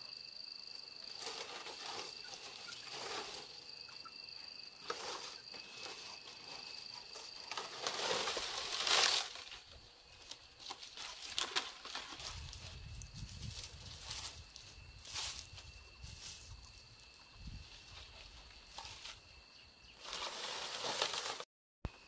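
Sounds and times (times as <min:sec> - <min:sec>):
dry thatch rustling and crackling: 0:00.7 - 0:21.5.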